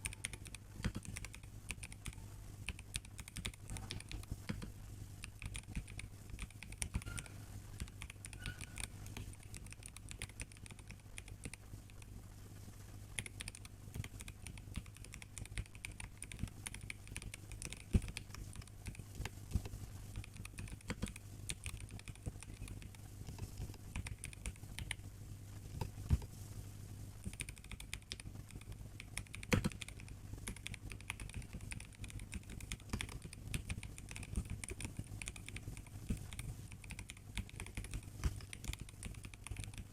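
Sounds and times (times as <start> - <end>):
mechanical keyboard typing: 0.0 - 12.1, 13.2 - 25.0, 27.2 - 39.9
faint low hum: 0.0 - 39.9.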